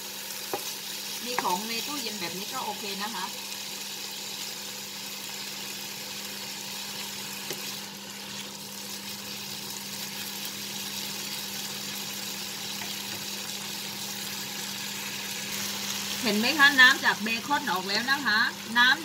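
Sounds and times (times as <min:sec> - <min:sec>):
bacon sizzling in a frying pan: 0:00.0 - 0:19.0.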